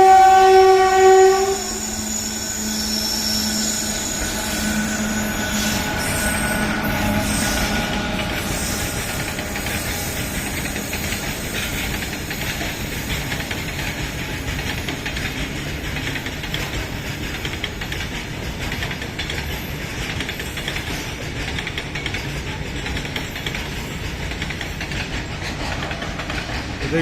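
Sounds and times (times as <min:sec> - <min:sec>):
goods train rumble: 0:00.0 - 0:27.0
wheels clattering over rails: 0:03.9 - 0:27.0.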